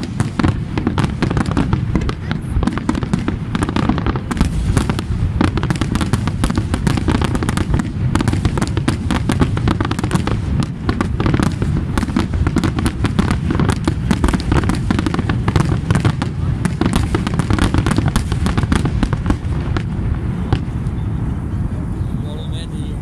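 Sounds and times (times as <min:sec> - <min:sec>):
fireworks cracks and bangs: 0:00.0 - 0:21.5.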